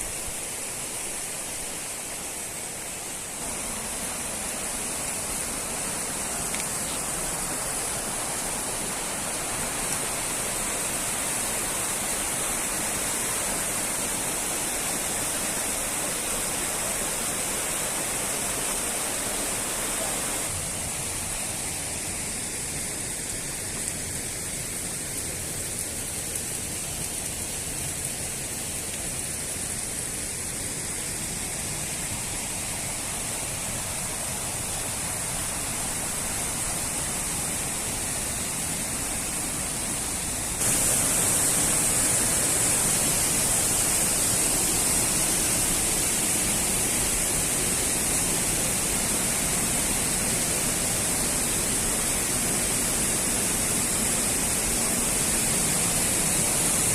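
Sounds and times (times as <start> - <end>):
waterfall rushing: 0.0 - 23.8, 26.6 - 56.9.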